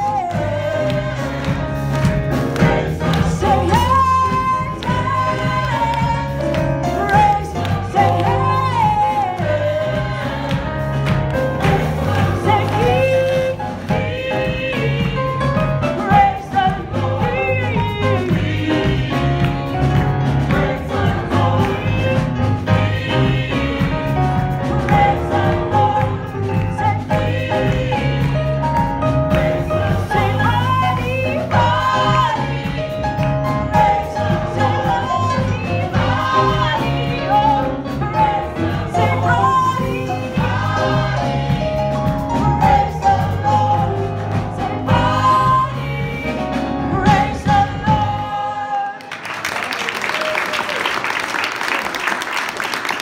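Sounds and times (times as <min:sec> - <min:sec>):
gospel choir singing: 0:00.0 - 0:49.2.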